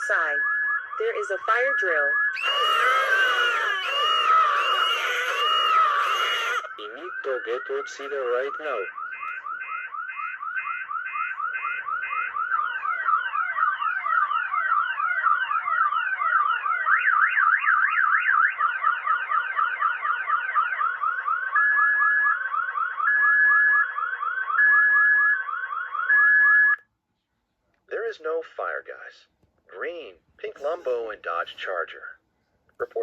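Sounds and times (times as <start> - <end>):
fire alarm warbling siren: 0.0 - 26.8.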